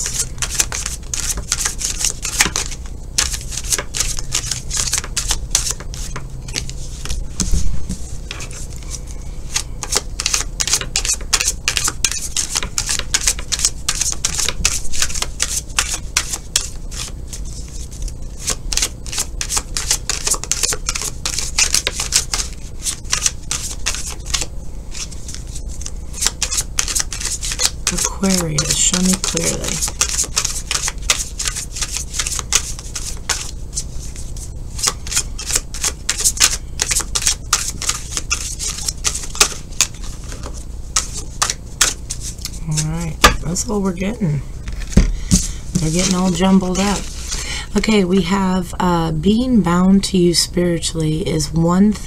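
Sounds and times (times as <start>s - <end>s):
cards being shuffled: 0.0s - 43.7s, 44.6s - 47.4s.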